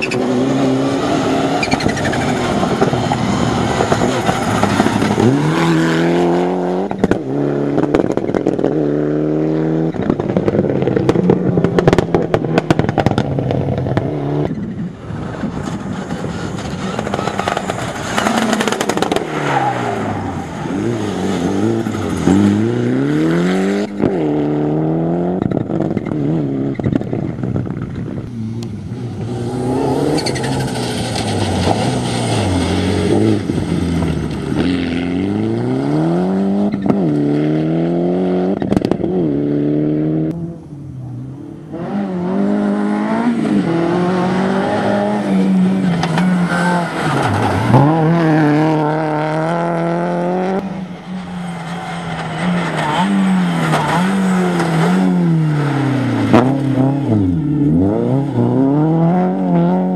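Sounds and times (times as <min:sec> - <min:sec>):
rally car engine revving: 0:00.0 - 0:59.9
gravel crackling under tyres: 0:01.0 - 0:39.2, 0:43.1 - 0:58.7.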